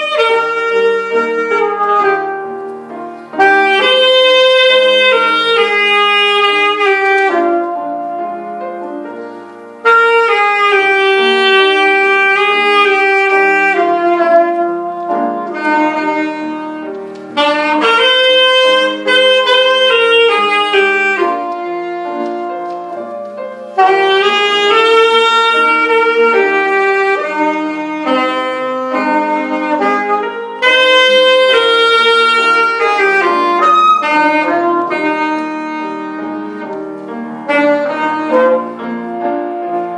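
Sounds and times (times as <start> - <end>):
saxophone melody: 0.0 - 39.9
soft sustained backing accompaniment: 0.0 - 39.9.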